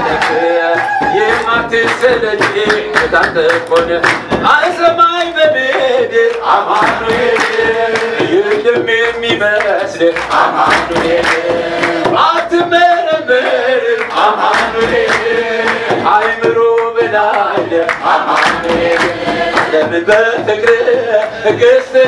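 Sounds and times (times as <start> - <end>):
man singing into microphone: 0.0 - 18.9, 19.5 - 22.0
congregation singing: 0.0 - 22.0
drum beats: 0.0 - 22.0
hand clapping: 0.0 - 22.0.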